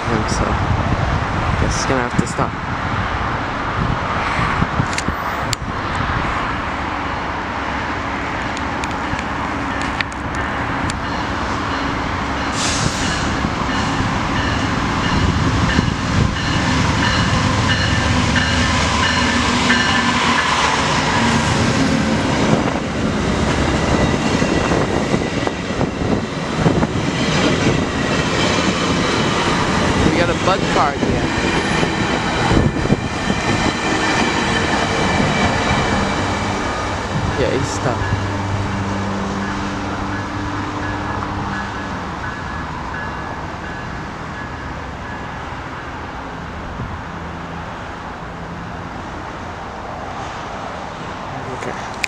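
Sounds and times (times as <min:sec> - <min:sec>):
diesel locomotive approaching: 0:00.0 - 0:52.0
train cars rolling on rails: 0:00.0 - 0:52.0.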